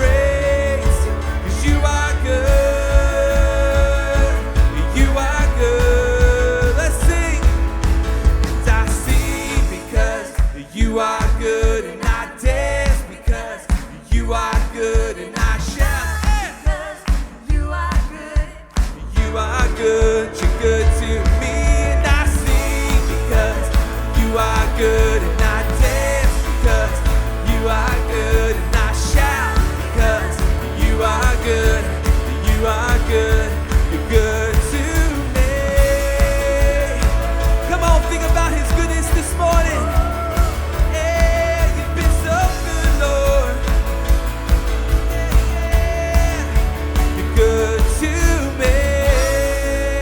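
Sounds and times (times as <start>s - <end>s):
band playing pop-rock song: 0.0s - 50.0s
steady drum beat: 0.0s - 50.0s.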